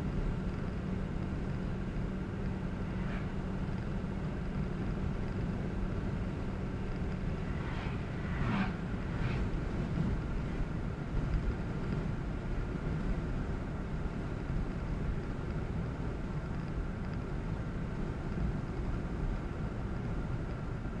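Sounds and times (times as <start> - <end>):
car driving on road: 0.0 - 21.0
faint steady hum: 0.0 - 21.0.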